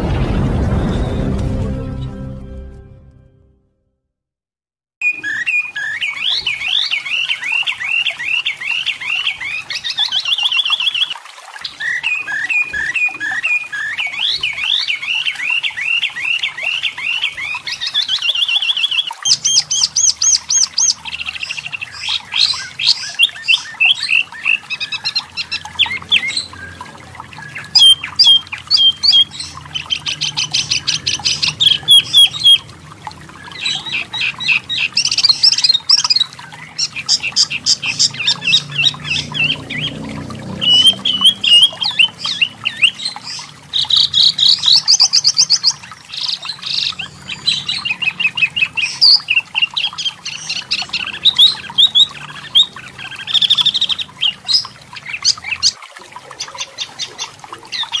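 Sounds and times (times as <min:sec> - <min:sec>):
bird chirping and trilling: 0:05.0 - 0:58.0.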